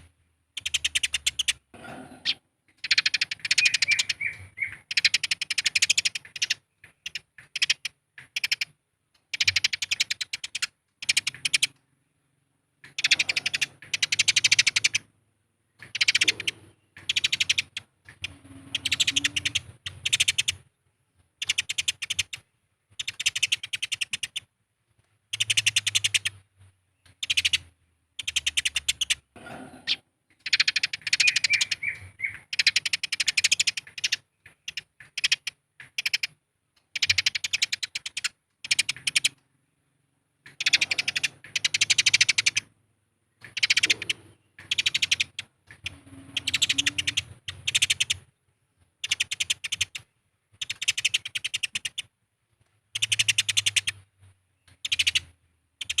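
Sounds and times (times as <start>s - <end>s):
sparrows chirping harshly: 0.0s - 12.1s, 12.8s - 20.8s, 21.4s - 24.5s, 25.2s - 48.4s, 49.0s - 52.1s, 52.9s - 56.0s.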